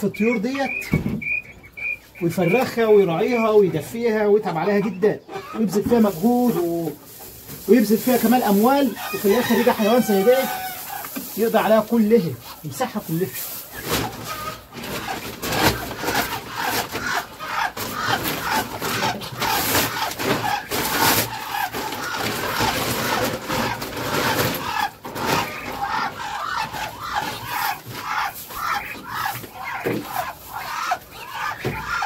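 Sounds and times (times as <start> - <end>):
poultry calling: 0.0 - 32.0
plastic sacks rustling: 5.6 - 32.0.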